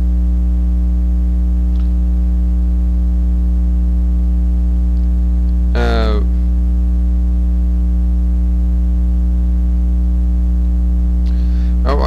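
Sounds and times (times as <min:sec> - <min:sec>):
loud electrical hum: 0:00.0 - 0:12.0.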